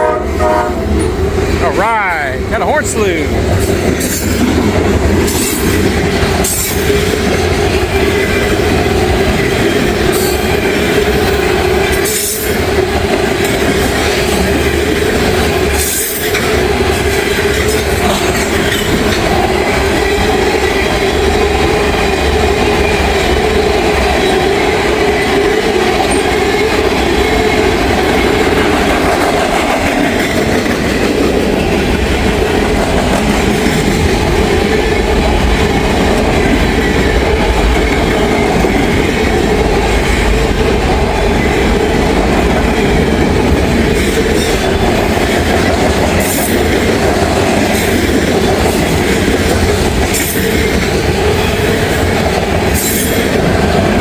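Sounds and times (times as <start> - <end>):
freight train rumble and clatter: 0.0 - 54.0.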